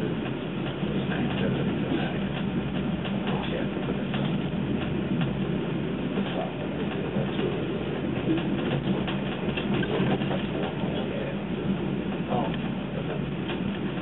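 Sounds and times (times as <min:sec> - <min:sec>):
faint clicks and rattles: 0:00.0 - 0:14.0
train rumble inside carriage: 0:00.0 - 0:14.0.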